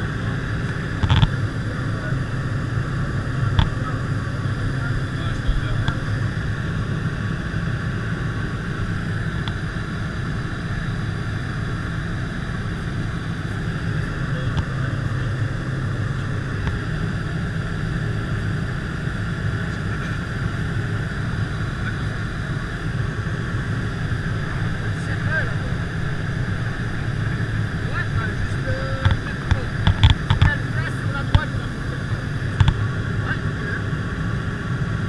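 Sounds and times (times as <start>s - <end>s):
plane engine and propeller drone: 0.0s - 35.0s.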